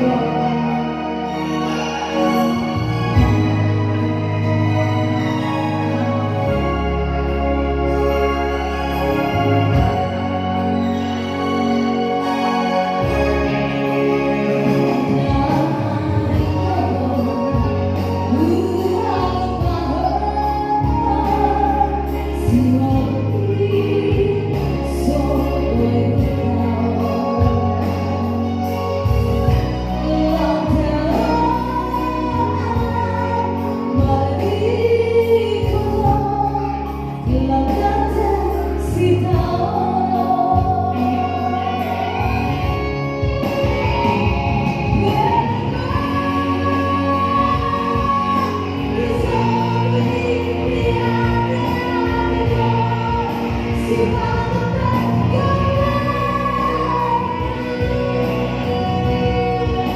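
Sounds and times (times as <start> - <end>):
held bass notes: 0.0 - 59.9
person singing gospel song: 0.0 - 59.9.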